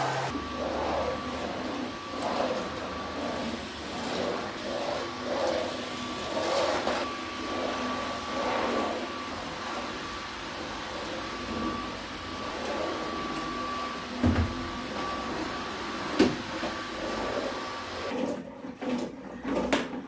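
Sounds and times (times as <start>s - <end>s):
vacuum cleaner running: 0.0s - 19.4s.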